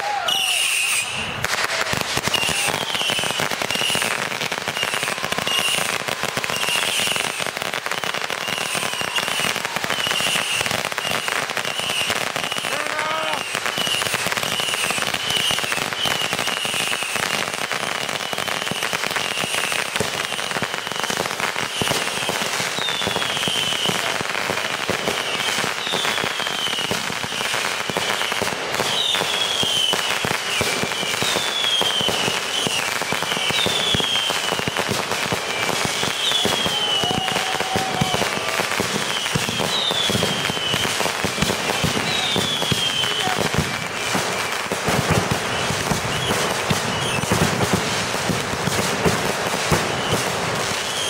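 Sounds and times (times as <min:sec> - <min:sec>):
falling firework whistle: 0:00.0 - 0:51.0
fireworks crackling and popping: 0:00.0 - 0:51.0.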